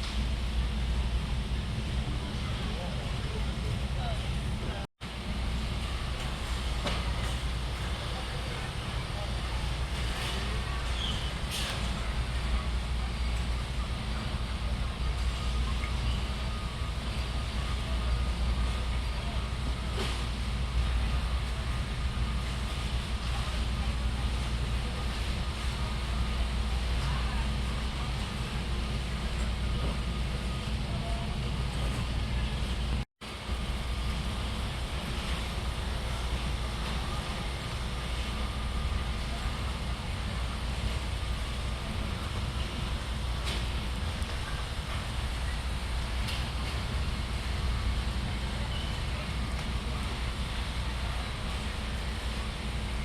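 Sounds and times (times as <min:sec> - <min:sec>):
store background rumble: 0:00.0 - 0:53.0.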